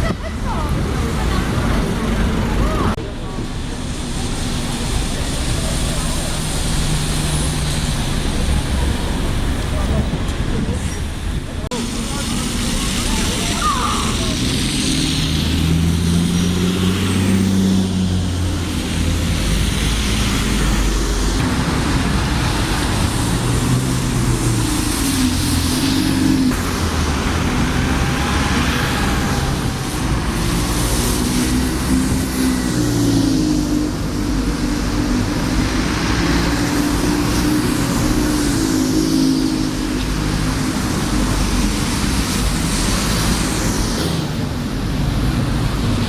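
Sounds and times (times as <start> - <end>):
large vehicle engine droning: 0.0 - 46.0.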